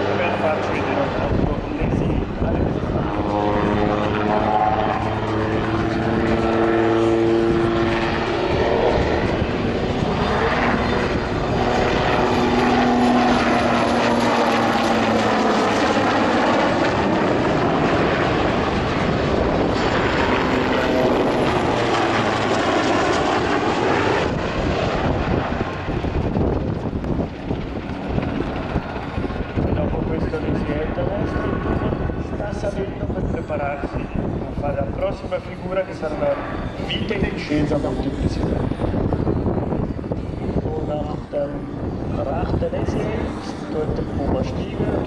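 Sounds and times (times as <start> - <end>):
helicopter turbines and rotor: 0.0 - 45.0.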